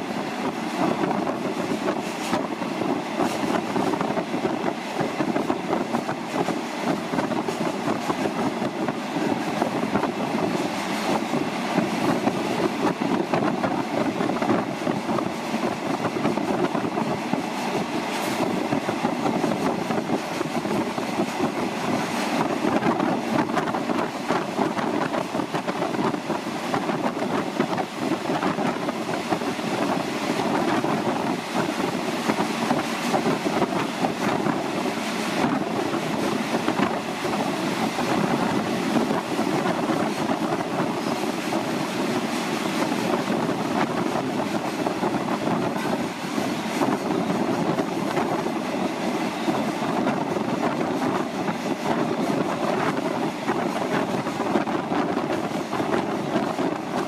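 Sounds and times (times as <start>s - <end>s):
train wheels rumbling in tunnel: 0.0s - 57.0s.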